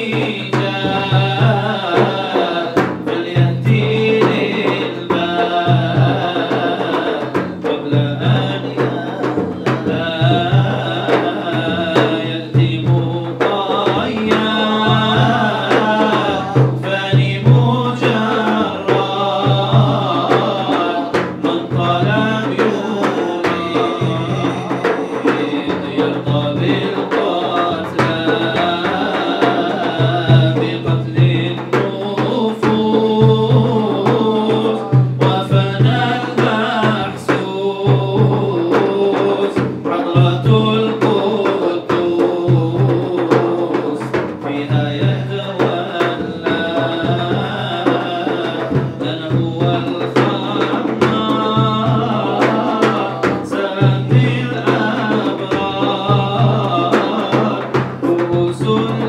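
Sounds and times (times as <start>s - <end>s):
hand drums beating: 0.0s - 59.0s
man singing into a microphone: 0.0s - 59.0s.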